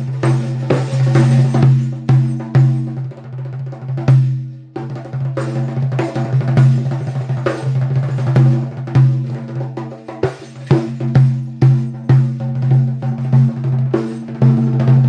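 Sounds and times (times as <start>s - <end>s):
drums struck in steady rhythm: 0.0s - 15.0s.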